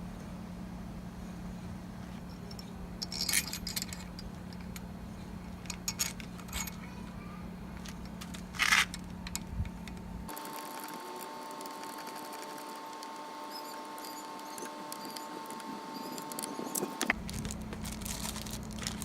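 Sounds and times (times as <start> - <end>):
steady low hum: 0.0 - 19.0
metal parts clinking: 2.3 - 7.0, 7.8 - 11.0, 11.6 - 19.0.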